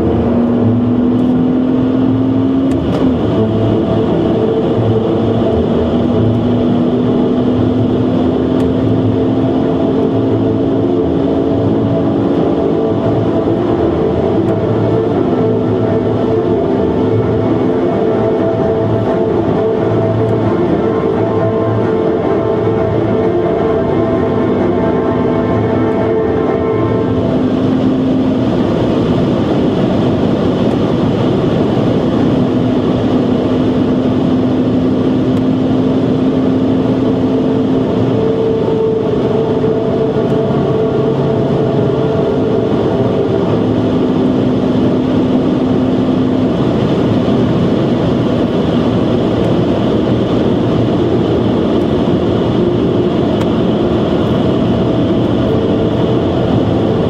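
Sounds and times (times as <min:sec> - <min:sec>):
car engine drone: 0:00.0 - 0:57.0
wind and tyre noise: 0:00.0 - 0:57.0.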